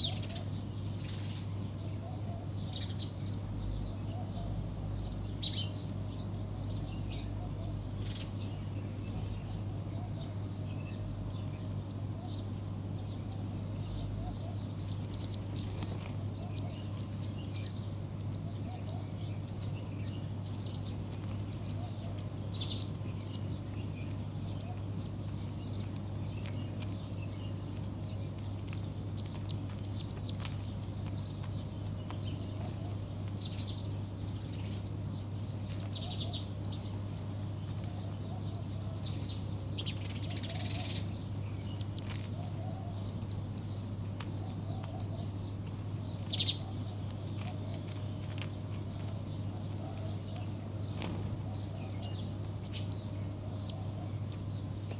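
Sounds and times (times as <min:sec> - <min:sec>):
small birds chirping: 0:00.0 - 0:54.9
steady low hum: 0:00.0 - 0:54.9.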